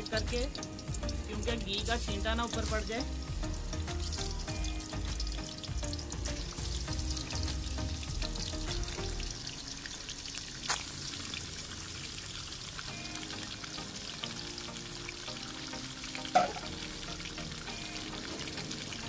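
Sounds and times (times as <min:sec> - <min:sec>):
chicken sizzling in hot fat: 0:00.0 - 0:19.0.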